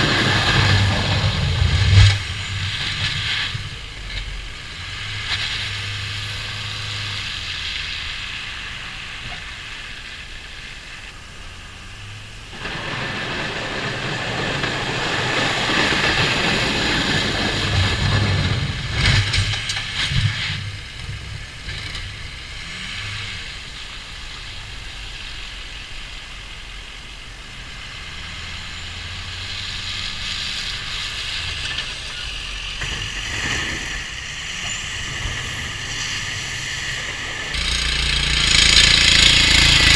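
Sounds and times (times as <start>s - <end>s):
diesel truck engine running: 0.0s - 39.9s
plow blade scraping snow: 0.0s - 39.9s.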